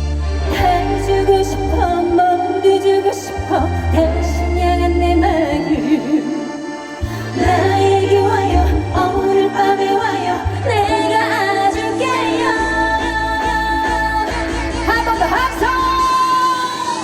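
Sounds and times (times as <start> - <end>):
band accompaniment: 0.0 - 17.0
woman singing with vibrato: 0.0 - 17.0.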